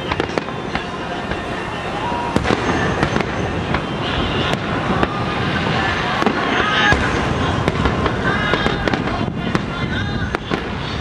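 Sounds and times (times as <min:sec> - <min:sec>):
fireworks bursting and crackling: 0:00.0 - 0:11.0
sharp firework bangs: 0:00.0 - 0:11.0.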